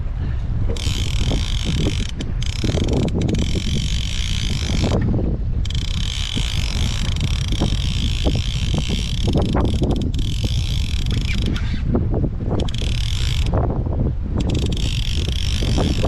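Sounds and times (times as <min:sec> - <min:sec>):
wind buffeting microphone: 0:00.0 - 0:16.0
fishing reel gears whirring: 0:00.7 - 0:11.8, 0:12.5 - 0:13.6, 0:14.4 - 0:16.0.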